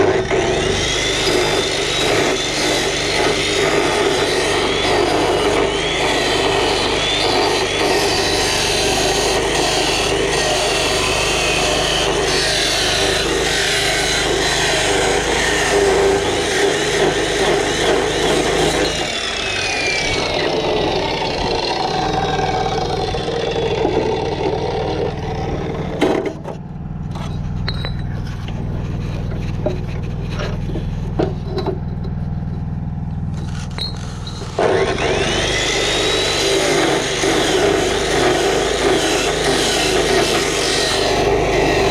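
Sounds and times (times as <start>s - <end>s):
engine running: 0.0s - 41.9s
knocks and scraping: 0.0s - 41.9s.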